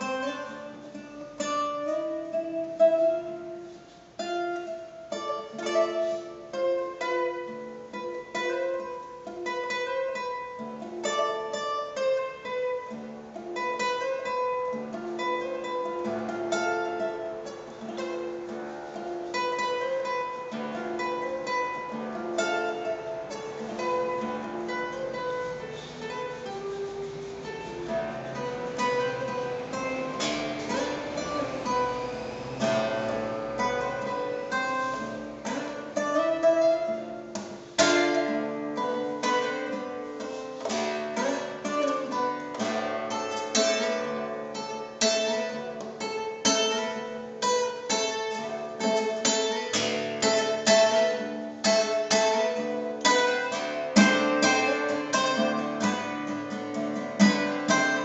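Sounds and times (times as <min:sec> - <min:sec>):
acoustic guitar improvising: 0:00.0 - 0:58.0.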